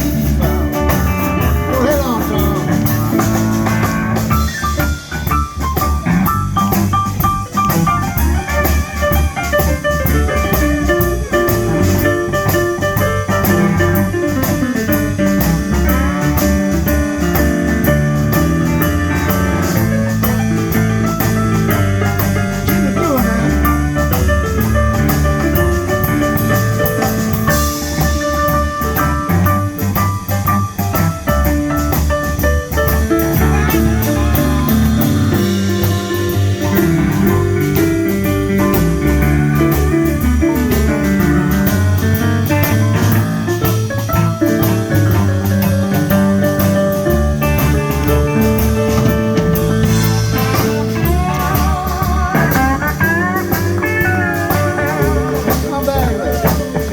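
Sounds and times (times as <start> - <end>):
bass: 0.0 - 56.9
drum kit steady beat: 0.0 - 56.9.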